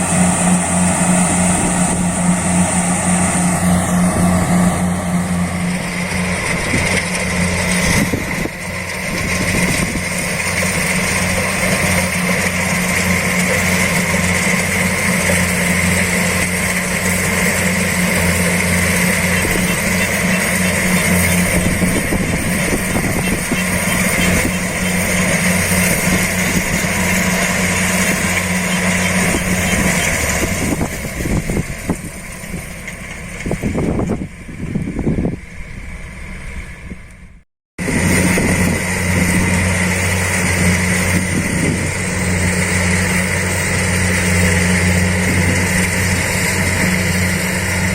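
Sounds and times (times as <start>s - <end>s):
combine harvester engine running: 0.0s - 47.9s
high steady machinery whine: 0.0s - 47.9s.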